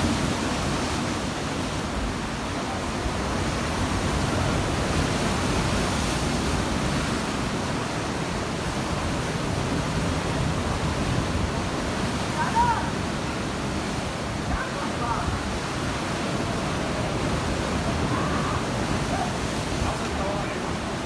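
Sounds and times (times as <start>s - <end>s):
waves splashing against rocks: 0.0s - 21.0s.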